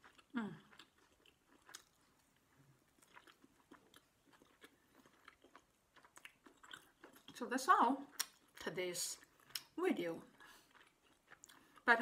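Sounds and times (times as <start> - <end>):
person quietly chewing: 0.0 - 7.4, 8.0 - 12.0.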